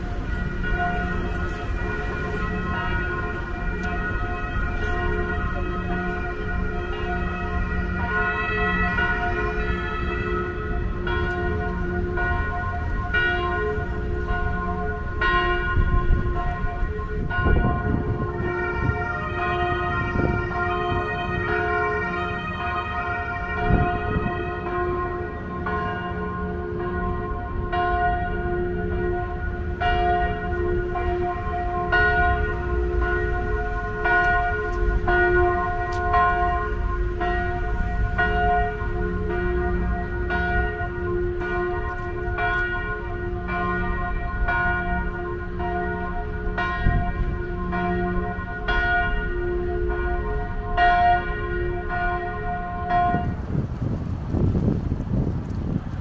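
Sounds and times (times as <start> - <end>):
church bells pealing: 0.0 - 54.7.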